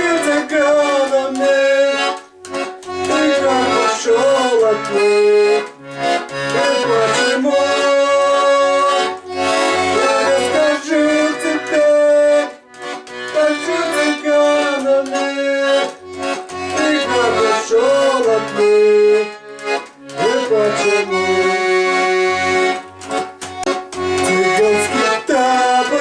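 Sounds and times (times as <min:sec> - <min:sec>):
accordion folk-style song: 0:00.0 - 0:26.0.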